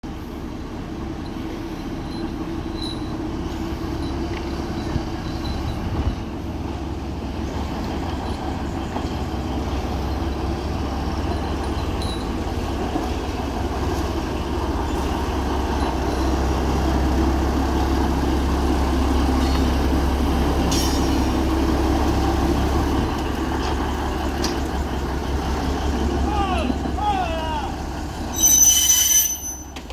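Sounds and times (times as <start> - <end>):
train locomotive rumble: 0.0 - 29.9.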